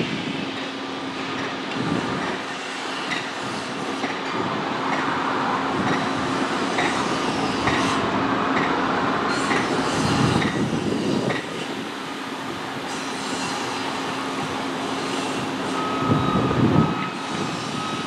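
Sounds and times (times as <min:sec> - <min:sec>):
rail car rumbling: 0:00.0 - 0:18.0.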